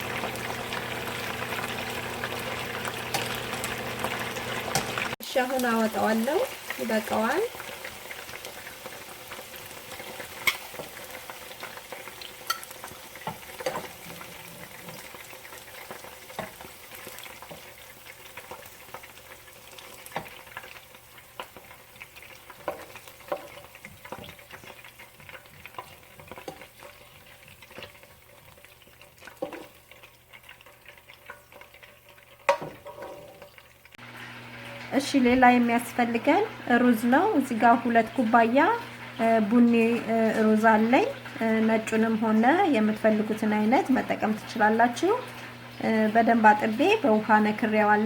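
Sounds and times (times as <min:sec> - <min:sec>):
chicken sizzling in oil: 0:00.0 - 0:48.0.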